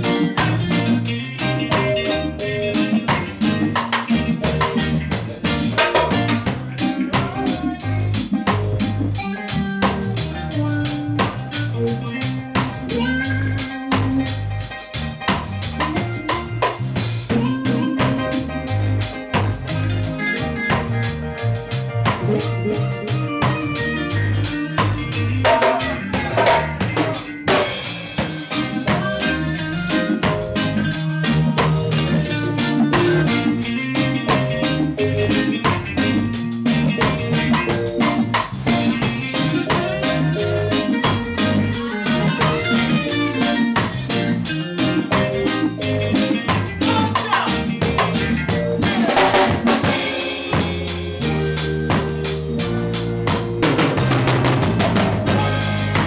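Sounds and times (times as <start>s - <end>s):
drum kit beat: 0.0s - 56.0s
electric bass line: 0.0s - 56.0s
keyboard chords: 0.0s - 56.0s.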